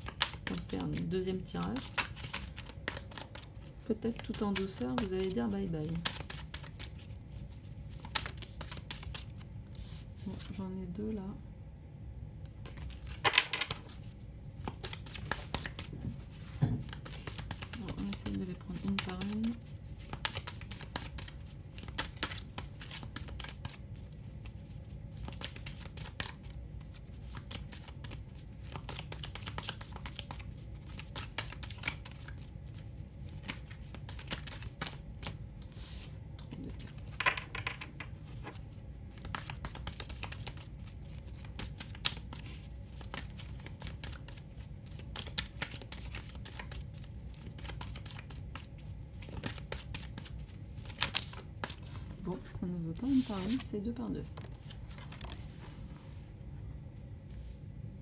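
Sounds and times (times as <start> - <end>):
cards rustling and flicking: 0.0 - 10.5, 12.4 - 52.4, 53.0 - 55.6
low steady hum: 0.0 - 58.0.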